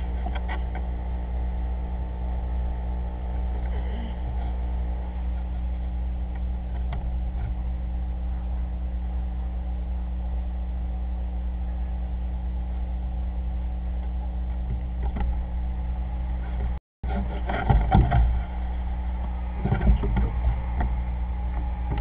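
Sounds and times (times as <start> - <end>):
low electrical hum with hiss: 0.0 - 22.0.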